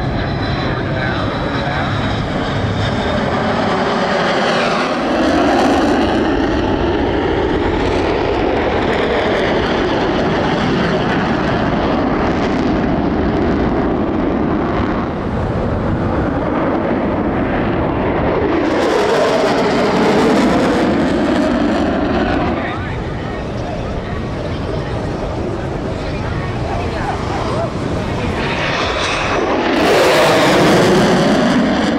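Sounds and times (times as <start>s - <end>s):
jet engines rumbling in flight: 0.0s - 31.9s.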